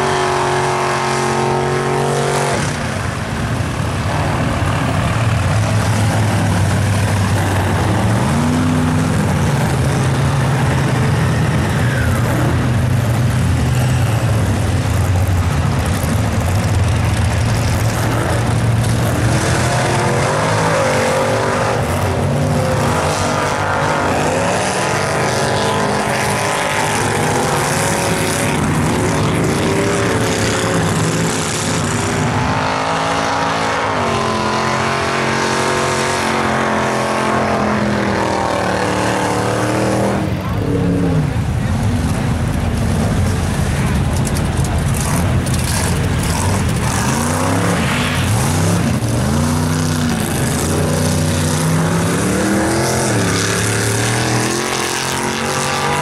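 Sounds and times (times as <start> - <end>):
mud spray and tire noise: 0.0 - 56.0
truck engine revving: 0.0 - 56.0.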